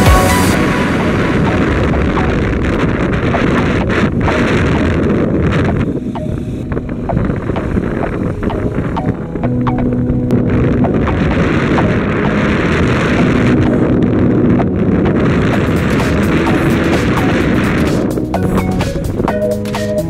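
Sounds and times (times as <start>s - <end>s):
road rumble: 0.0s - 20.0s
wind buffeting microphone: 0.0s - 20.0s.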